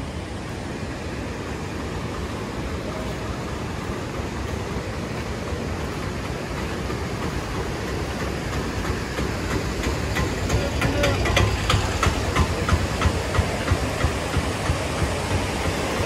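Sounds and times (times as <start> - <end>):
auto-rickshaw engine: 0.0 - 16.0.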